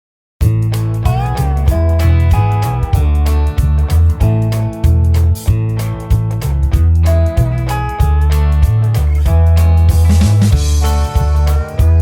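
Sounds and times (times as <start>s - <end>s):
guitar-led tune with heavy bass: 0.4s - 12.0s.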